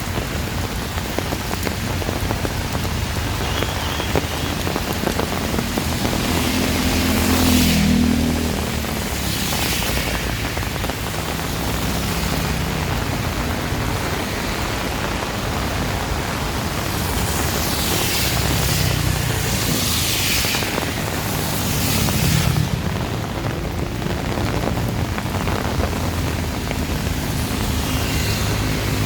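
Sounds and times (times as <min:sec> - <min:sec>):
heavy rain pouring: 0:00.0 - 0:29.0
strong wind: 0:00.0 - 0:29.0.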